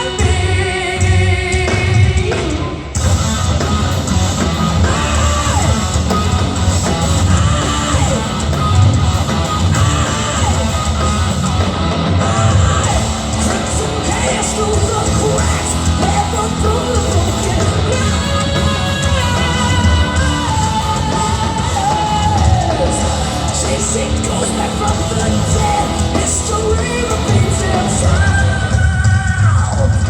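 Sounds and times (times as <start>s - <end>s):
electric guitar: 0.0s - 30.0s
live hard rock band: 0.0s - 30.0s.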